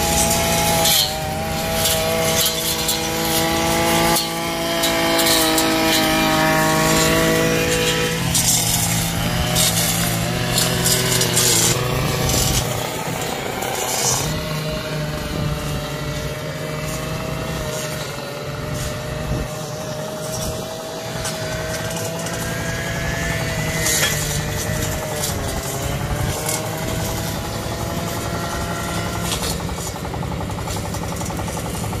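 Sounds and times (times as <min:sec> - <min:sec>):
brush cutter engine whining: 0:00.0 - 0:32.0.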